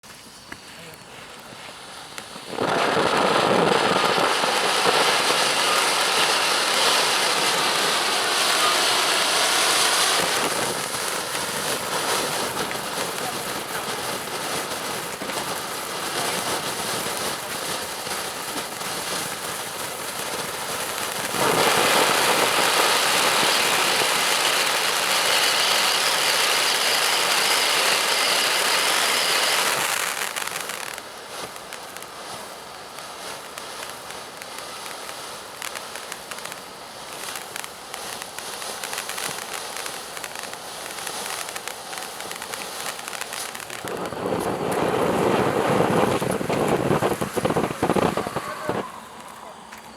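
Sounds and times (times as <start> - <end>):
firework hissing crackle: 0.0 - 49.9.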